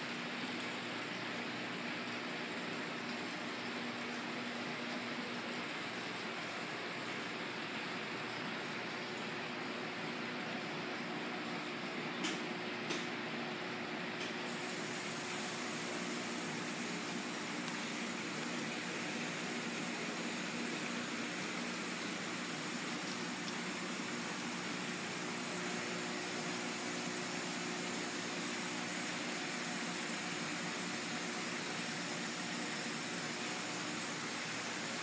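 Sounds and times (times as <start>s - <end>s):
aquarium filter hiss and hum: 0.0s - 35.0s.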